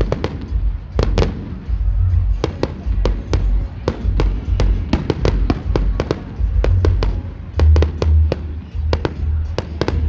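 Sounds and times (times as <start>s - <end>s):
fireworks banging: 0.0s - 10.0s
music with heavy bass: 0.0s - 10.0s.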